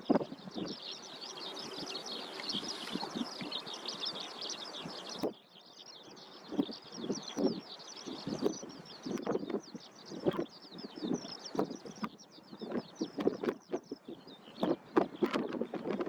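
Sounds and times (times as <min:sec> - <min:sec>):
wind on microphone: 0:00.0 - 0:05.4, 0:06.1 - 0:16.0
birds chirping: 0:00.0 - 0:16.0.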